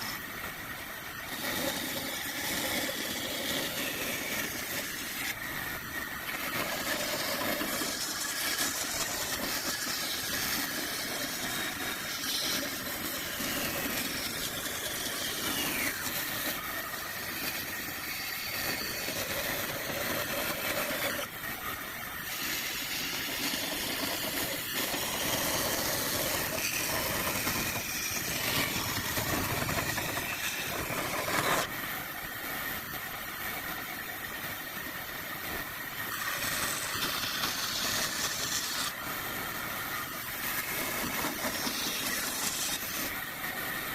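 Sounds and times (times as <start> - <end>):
woodworking power tool running: 0.0 - 32.7, 35.8 - 43.9.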